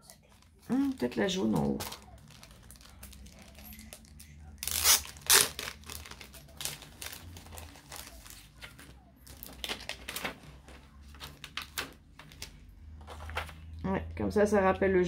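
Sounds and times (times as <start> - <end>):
materials rustling and crinkling: 0.0 - 13.8.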